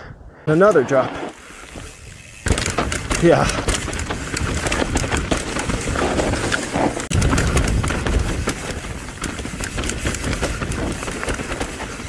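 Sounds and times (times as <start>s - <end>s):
bike clattering: 0.7s - 12.0s
tyres rumbling over rocky dirt: 1.4s - 12.0s.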